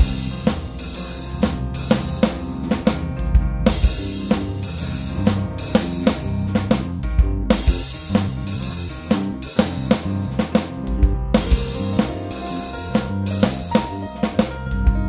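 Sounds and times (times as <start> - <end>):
bass drum and snare hits: 0.0 - 15.0
deep bass: 0.0 - 15.0
instrumental music with drum kit: 0.0 - 15.0.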